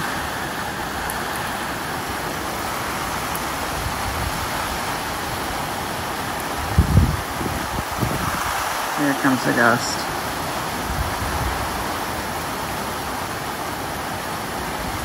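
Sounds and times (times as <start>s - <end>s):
heavy rain and wind: 0.0s - 15.0s.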